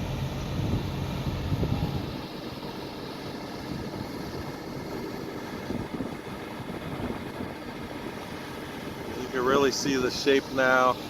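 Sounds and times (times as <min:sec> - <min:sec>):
low rumble of distant engines: 0:00.0 - 0:11.0.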